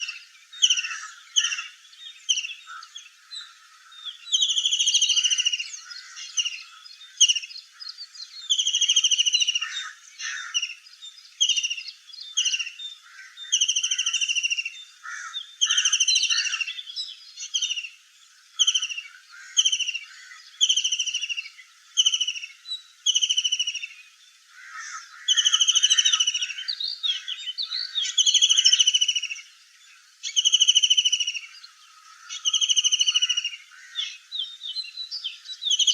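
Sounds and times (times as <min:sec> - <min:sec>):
birds whistling and chirping: 0:00.0 - 0:35.9.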